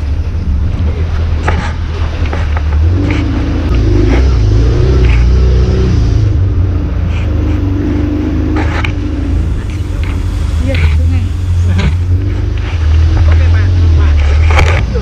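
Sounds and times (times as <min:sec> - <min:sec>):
jeep engine running and revving: 0:00.0 - 0:15.0.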